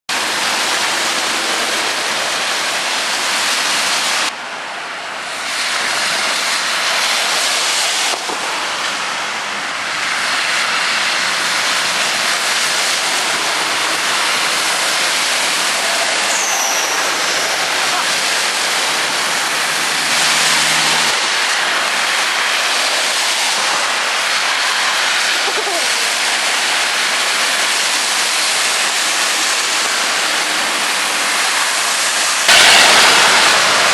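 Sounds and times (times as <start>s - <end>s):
heavy rain: 0.1s - 33.9s
tyres splashing through water: 0.1s - 33.9s.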